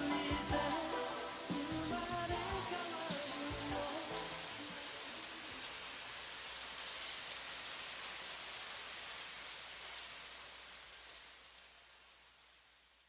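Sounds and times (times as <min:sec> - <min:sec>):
rain falling hiss: 0:00.0 - 0:13.0.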